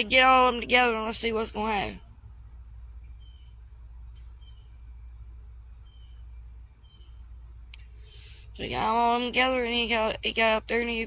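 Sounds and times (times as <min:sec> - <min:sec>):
insects trilling: 0:00.0 - 0:11.0
low background hum: 0:00.0 - 0:11.0.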